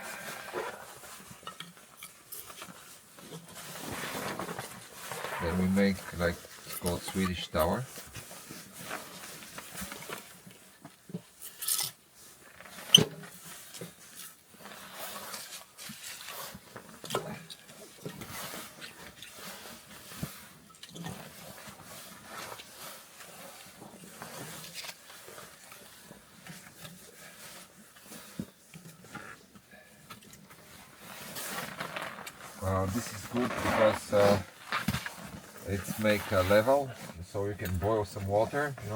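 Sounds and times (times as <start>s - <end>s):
rustling handling noise: 0.0s - 38.9s.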